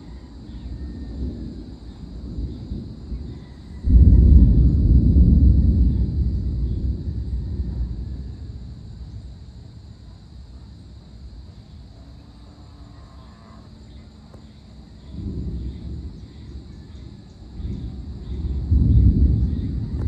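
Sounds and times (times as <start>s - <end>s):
distant thunder rumbling: 0.0s - 12.4s, 13.2s - 20.0s
faint high insect drone: 0.0s - 20.0s.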